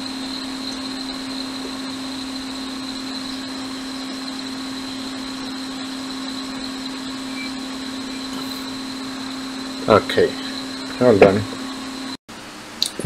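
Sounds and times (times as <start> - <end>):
constant high whine: 0.0 - 13.0
fan hum and air rush: 0.0 - 13.0.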